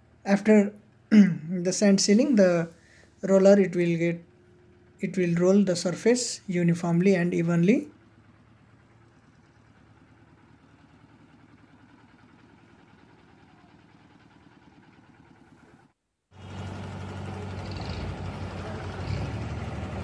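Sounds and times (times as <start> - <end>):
faint diesel engine running: 0.0 - 20.0
loud engine humming: 0.0 - 20.0.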